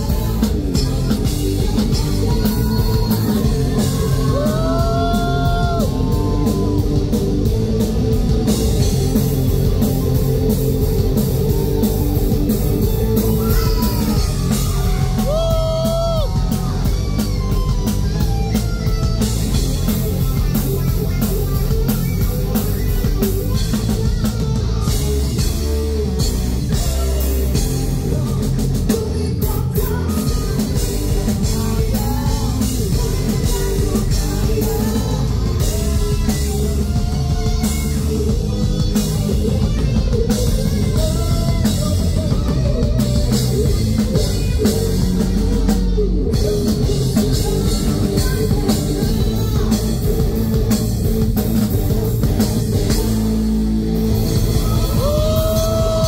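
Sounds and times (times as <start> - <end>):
drum kit: 0.0 - 56.0
electric guitar: 0.0 - 56.0
live rock band playing: 0.0 - 56.0.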